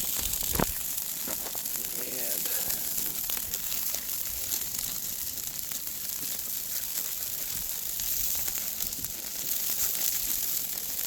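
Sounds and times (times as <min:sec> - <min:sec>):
burgers sizzling on a grill: 0:00.0 - 0:11.0.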